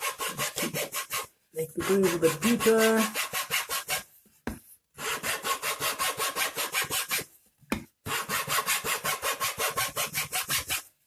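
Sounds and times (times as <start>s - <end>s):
hacksaw rasping on cardboard: 0.0s - 4.1s, 5.0s - 7.3s, 8.0s - 10.9s.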